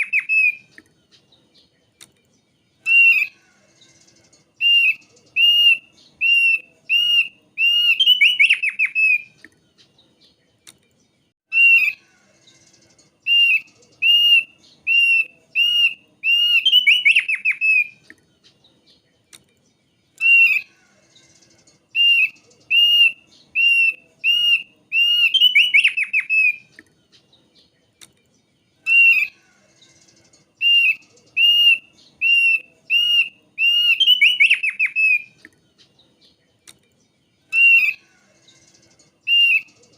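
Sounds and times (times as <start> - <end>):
bird whistled notes with trills: 0.0 - 1.7, 2.8 - 9.9, 11.5 - 18.6, 20.1 - 27.3, 28.8 - 35.8, 37.4 - 39.9.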